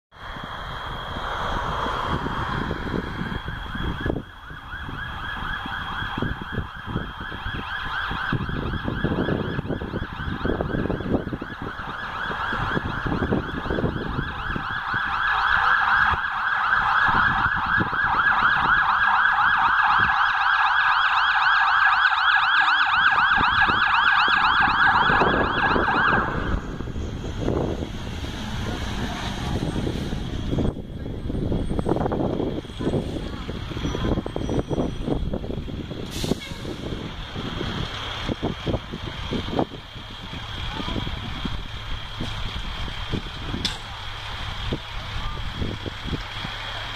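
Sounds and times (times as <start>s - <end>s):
truck engine rumbling: 0.1s - 46.9s
fire truck siren warbling: 0.2s - 46.9s.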